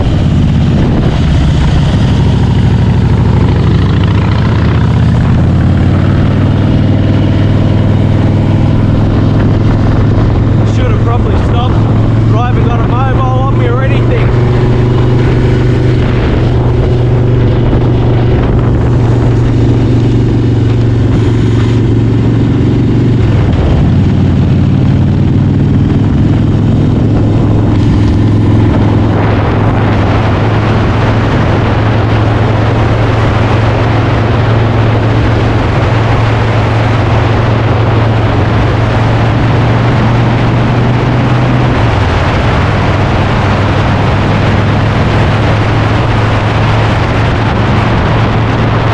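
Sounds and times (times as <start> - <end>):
broad rushing noise: 0.0 - 48.9
motorcycle engine running: 0.0 - 48.9.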